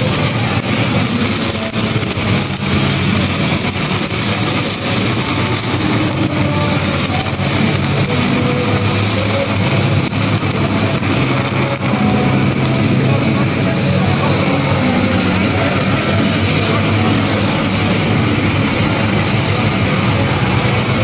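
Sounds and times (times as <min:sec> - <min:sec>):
low engine drone: 0:00.0 - 0:21.0
welding arc crackling and hissing: 0:00.0 - 0:21.0.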